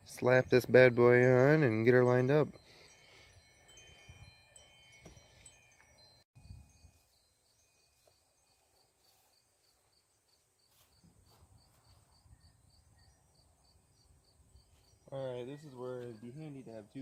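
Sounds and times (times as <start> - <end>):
faint cricket chirping: 2.6 - 17.0.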